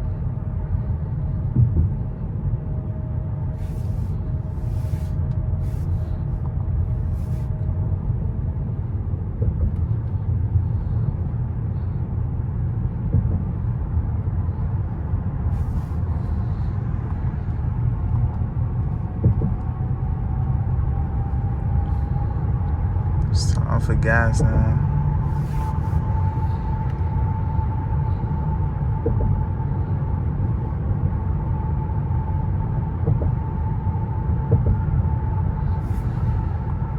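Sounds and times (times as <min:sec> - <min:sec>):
car road rumble: 0:00.0 - 0:36.9.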